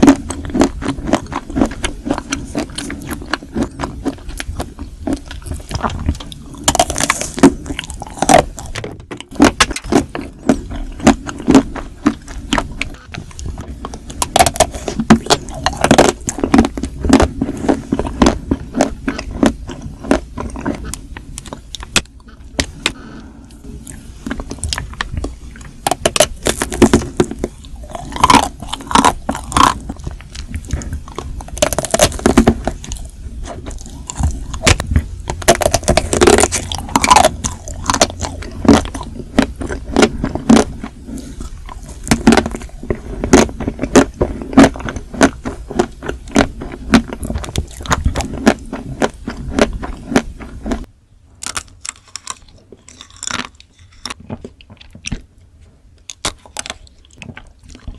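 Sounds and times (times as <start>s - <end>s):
chocolate shell crunching: 0.0s - 23.2s, 23.9s - 55.2s
ice cream biting and chewing: 0.0s - 57.9s.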